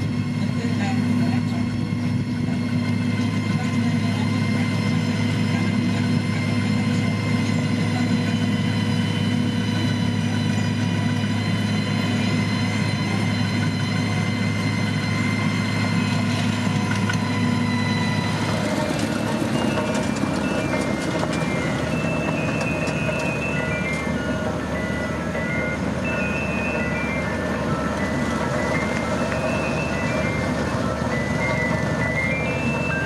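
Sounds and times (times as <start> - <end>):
diesel engine of heavy machinery: 0.0 - 33.0.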